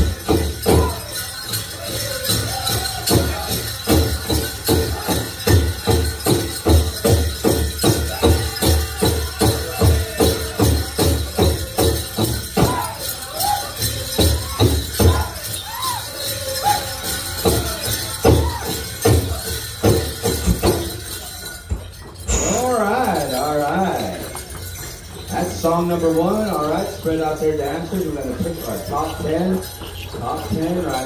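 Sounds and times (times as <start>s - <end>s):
high singing voices: 0.0s - 20.0s, 21.2s - 31.0s
bells jingling: 0.0s - 31.0s.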